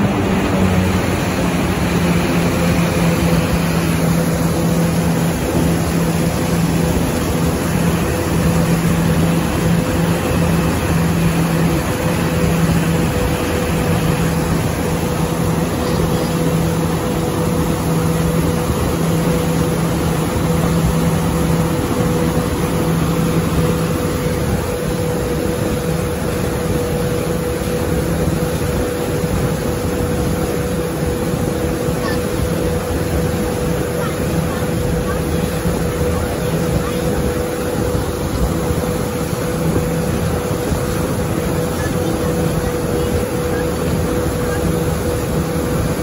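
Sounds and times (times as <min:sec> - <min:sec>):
boat engine humming: 0:00.0 - 0:46.0
rushing boat wake water: 0:00.0 - 0:46.0.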